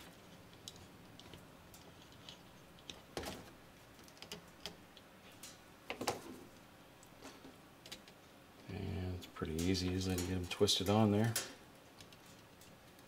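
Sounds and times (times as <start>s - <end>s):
clicks and taps of handling wire: 0.0s - 8.2s, 9.2s - 13.0s.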